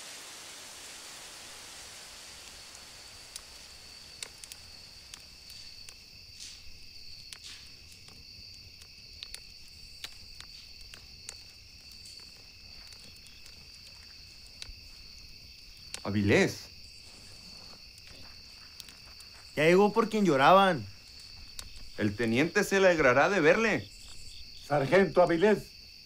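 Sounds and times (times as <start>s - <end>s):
campfire crackling: 0.0s - 26.0s
crickets trilling: 0.8s - 26.0s.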